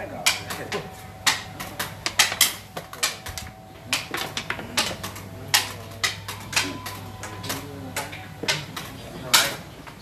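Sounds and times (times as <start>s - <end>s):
game pieces clacking on wooden board: 0.3s - 9.6s.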